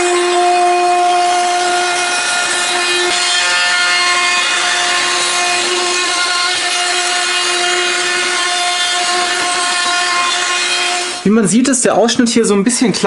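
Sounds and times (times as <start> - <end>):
router bit cutting wood: 0.0 - 11.3
router whining: 0.0 - 11.3.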